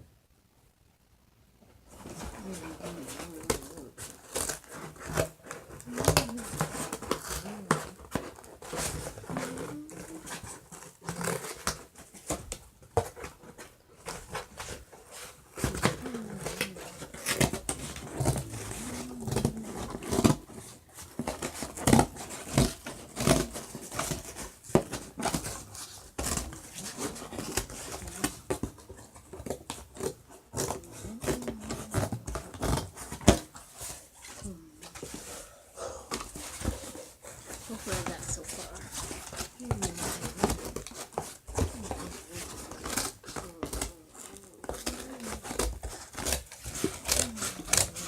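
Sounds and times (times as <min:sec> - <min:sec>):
foil and cardboard crinkling: 0:01.9 - 0:48.0.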